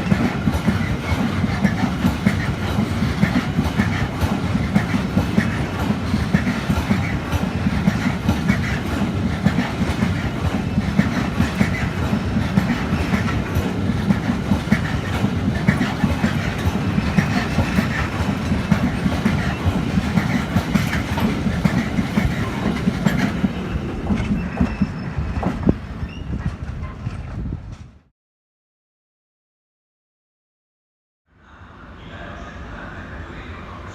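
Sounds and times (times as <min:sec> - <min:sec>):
train wheels clattering over rails: 0:00.0 - 0:28.0.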